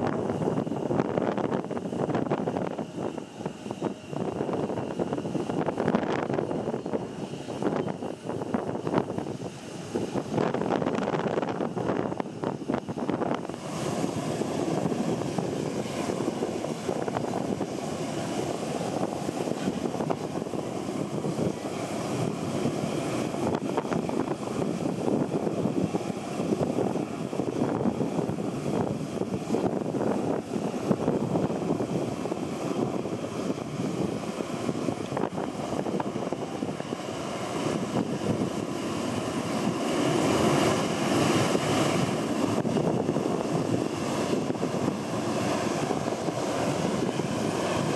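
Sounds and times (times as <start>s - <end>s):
jet airliner engines running: 0.0s - 47.9s
wind buffeting microphone: 0.0s - 47.9s.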